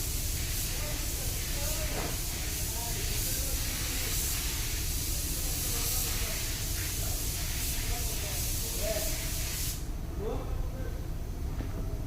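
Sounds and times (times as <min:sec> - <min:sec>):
spray gun hissing: 0:00.0 - 0:09.8.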